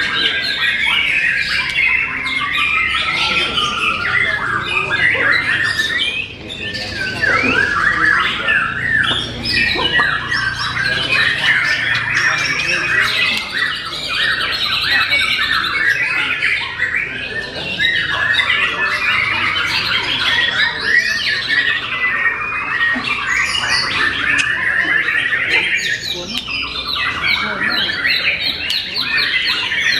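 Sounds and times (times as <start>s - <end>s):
bird song whistles and chatter: 0.0s - 29.9s.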